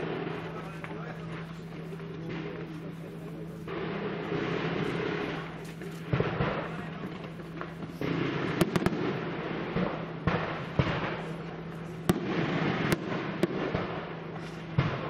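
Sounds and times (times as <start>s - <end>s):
firework shells bursting with bangs: 0.0s - 15.0s
low firework effects noise: 0.0s - 15.0s.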